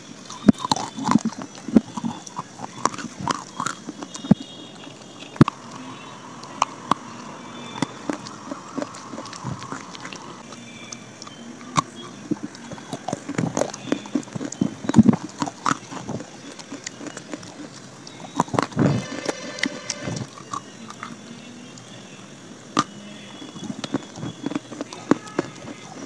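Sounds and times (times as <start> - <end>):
dry clay being chewed: 0.0 - 22.0, 22.8 - 26.0.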